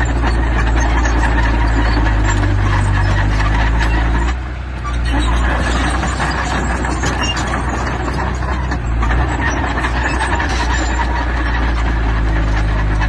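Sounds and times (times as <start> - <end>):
continuous clatter: 0.0 - 13.0
heavy machinery diesel engine: 0.0 - 13.0.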